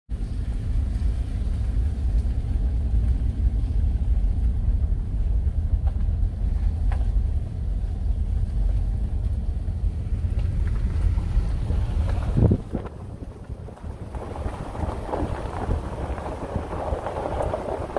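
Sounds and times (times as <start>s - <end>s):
pickup engine rumble: 0.1s - 17.9s
tyres on dirt road: 0.1s - 17.9s.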